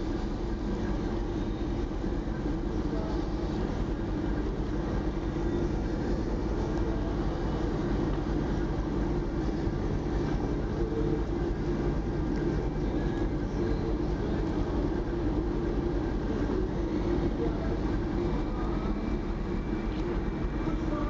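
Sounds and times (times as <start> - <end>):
ferry engines droning: 0.0 - 21.0.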